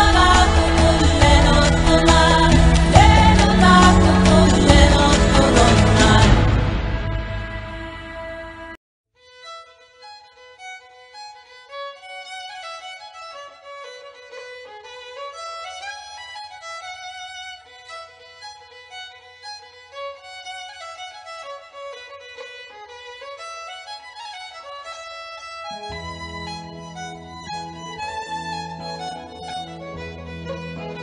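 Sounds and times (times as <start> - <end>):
violin melody with sliding notes: 0.0 - 7.9, 9.2 - 31.0.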